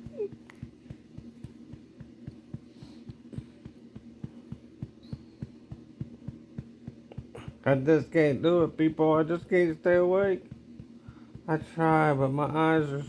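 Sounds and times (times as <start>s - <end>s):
quick pats on a baby's back: 0.0s - 8.2s, 8.8s - 12.1s
steady low hum: 0.0s - 13.0s.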